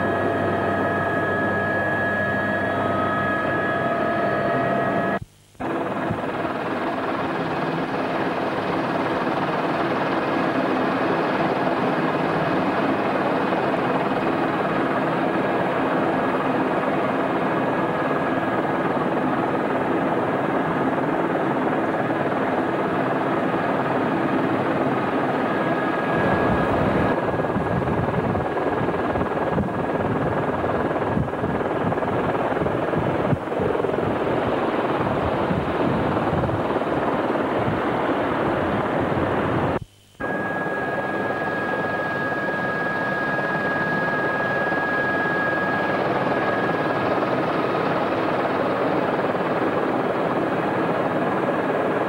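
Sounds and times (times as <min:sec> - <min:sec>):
helicopter cabin turbine whine: 0:00.0 - 0:52.0
helicopters flying overhead: 0:00.0 - 0:52.0.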